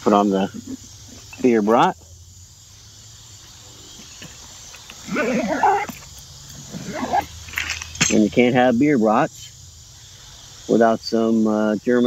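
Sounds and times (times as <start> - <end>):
crickets and insects chirring: 0.0 - 12.0.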